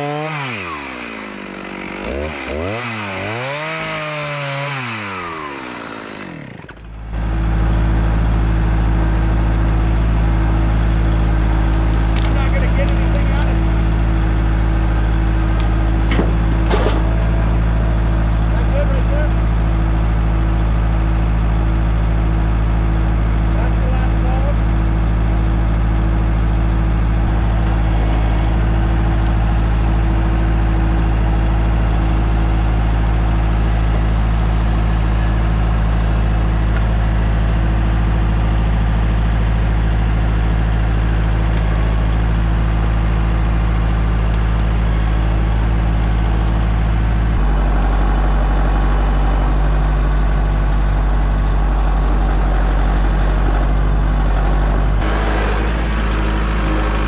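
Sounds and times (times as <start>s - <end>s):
sawmill engine sawing log: 0.0s - 57.0s.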